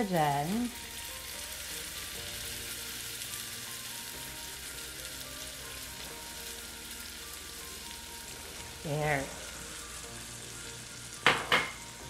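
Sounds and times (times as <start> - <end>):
oil and water sizzling in a pan: 0.0 - 12.0
soft background music: 0.0 - 12.0
water bubbling in hot oil: 0.0 - 12.0.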